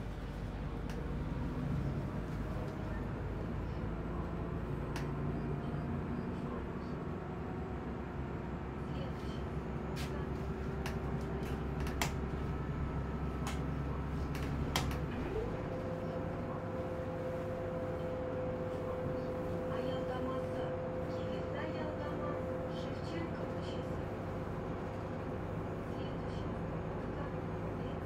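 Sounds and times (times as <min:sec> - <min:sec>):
bus engine and road drone: 0:00.0 - 0:28.0.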